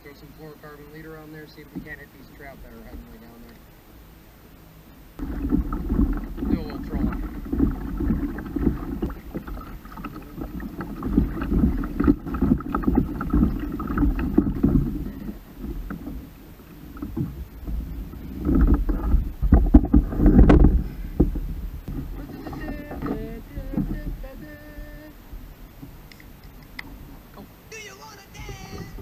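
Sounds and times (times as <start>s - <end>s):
wind rumbling on microphone: 0.0s - 29.0s
water splashing against kayak hull: 0.1s - 29.0s.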